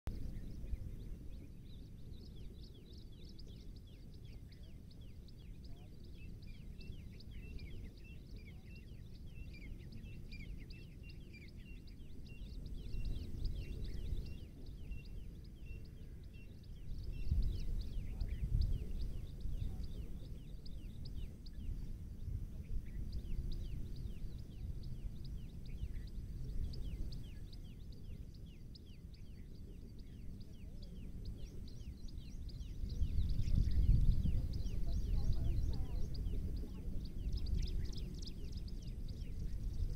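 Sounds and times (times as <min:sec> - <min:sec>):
birds chirping: 0:00.1 - 0:39.9
low rumbling noise: 0:00.1 - 0:39.9.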